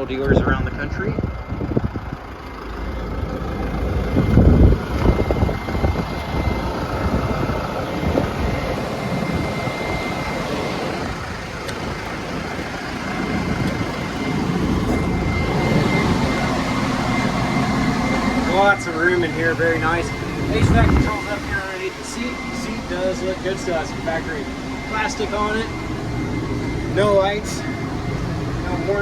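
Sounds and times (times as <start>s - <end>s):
diesel engine running: 0.0s - 29.0s
high-pitched whine: 0.0s - 29.0s.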